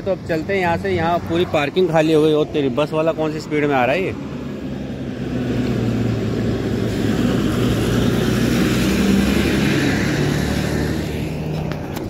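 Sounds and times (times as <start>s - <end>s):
bus driving past: 0.7s - 12.0s.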